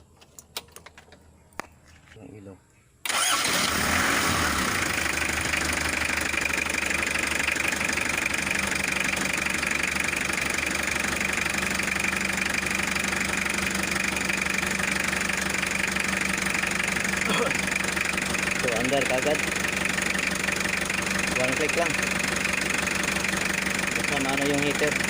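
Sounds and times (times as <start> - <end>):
diesel engine idling: 3.1 - 25.0.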